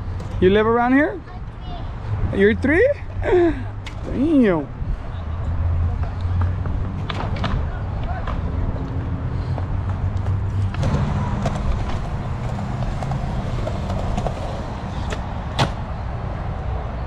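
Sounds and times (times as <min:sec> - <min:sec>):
skateboard wheels rolling on concrete: 0:00.0 - 0:17.0.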